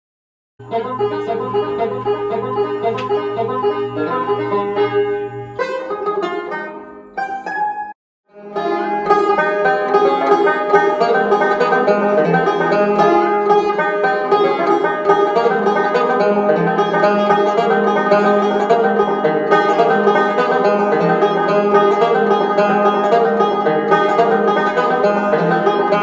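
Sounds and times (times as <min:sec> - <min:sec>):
banjo picking: 0:00.6 - 0:26.0.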